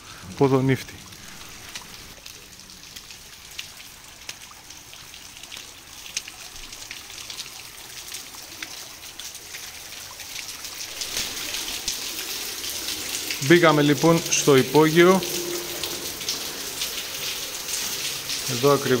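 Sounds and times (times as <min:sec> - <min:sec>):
small splashes and drips: 0:00.0 - 0:19.0
water trickling over concrete: 0:00.0 - 0:19.0.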